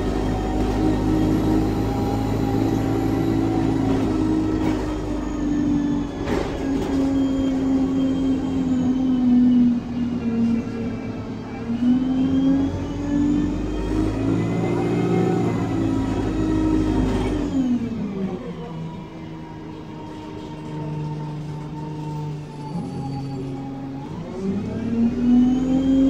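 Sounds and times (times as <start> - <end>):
bus engine and gearbox whine: 0.0 - 26.0.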